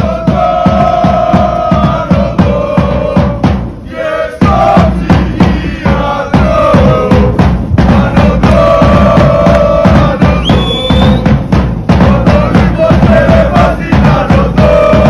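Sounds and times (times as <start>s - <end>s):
music with fast drum beat: 0.0s - 15.0s.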